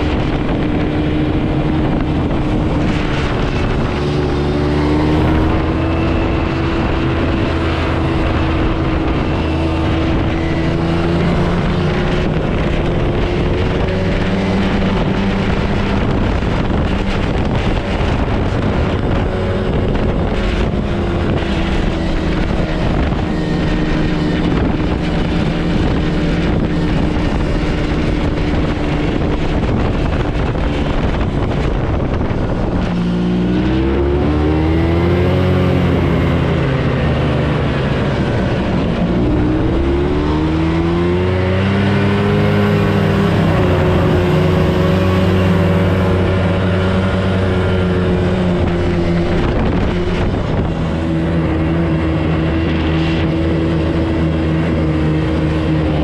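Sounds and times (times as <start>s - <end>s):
snowmobile engine revving: 0.0s - 56.0s
track and snow noise: 0.0s - 56.0s.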